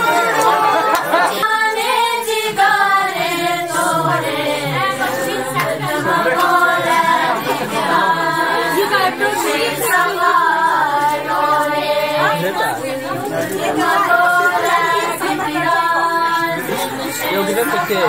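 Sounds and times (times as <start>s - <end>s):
group singing without instruments: 0.0s - 18.0s.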